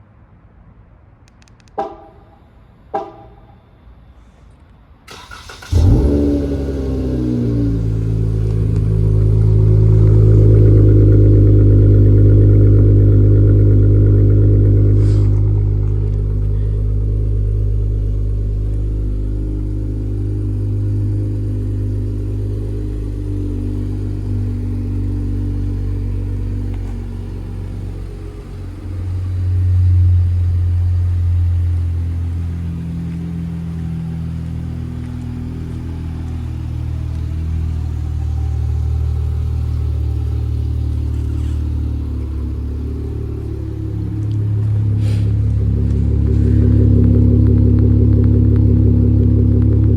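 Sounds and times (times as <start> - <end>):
car engine idling: 5.1 - 49.9.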